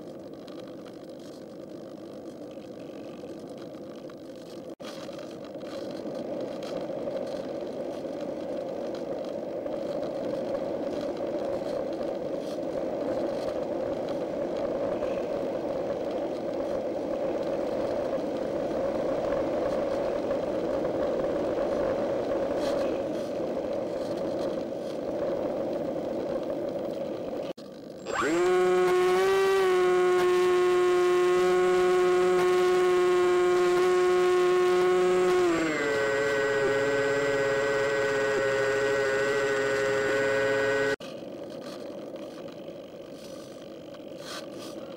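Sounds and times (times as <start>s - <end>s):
electric motor and propeller whir: 0.0s - 44.9s.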